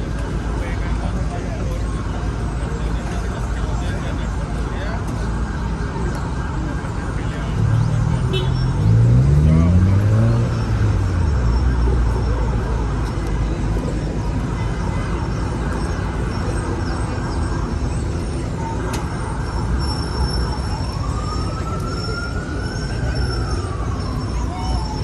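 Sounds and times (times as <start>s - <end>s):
street traffic rumble: 0.0s - 25.0s
distant emergency siren: 1.8s - 25.0s.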